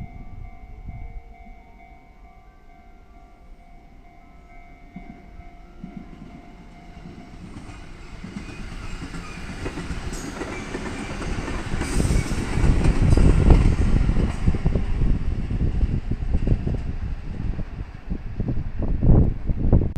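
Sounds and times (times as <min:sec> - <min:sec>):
train passing: 0:00.0 - 0:19.9.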